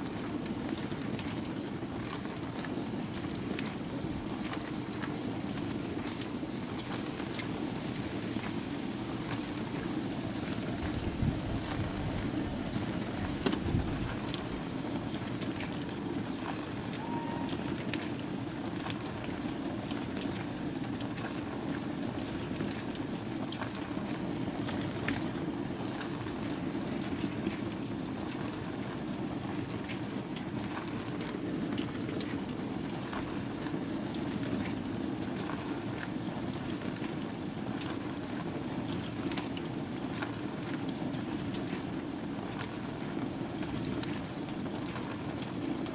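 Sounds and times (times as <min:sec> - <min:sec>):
water sloshing in washing machine: 0:00.0 - 0:45.9.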